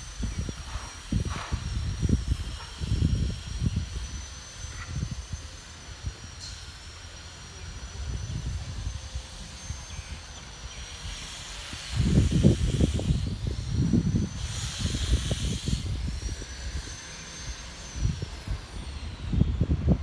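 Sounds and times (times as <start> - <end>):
wind rumbling on microphone: 0.0 - 6.4, 7.6 - 20.0.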